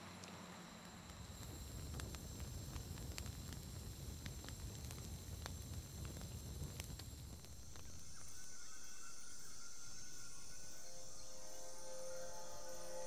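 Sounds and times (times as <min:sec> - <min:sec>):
open fire crackling: 0:00.0 - 0:11.2
insects droning: 0:00.0 - 0:13.0.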